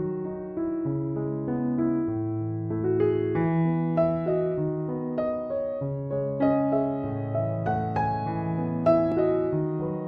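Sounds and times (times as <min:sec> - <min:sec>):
gentle keyboard melody: 0:00.0 - 0:10.0.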